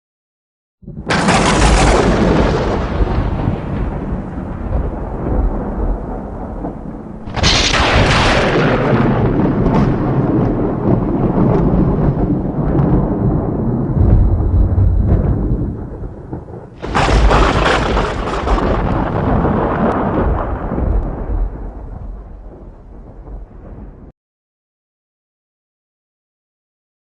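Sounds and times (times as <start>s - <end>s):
thunder clap and rumble: 0.8s - 24.1s
thunder crackles: 0.8s - 24.1s.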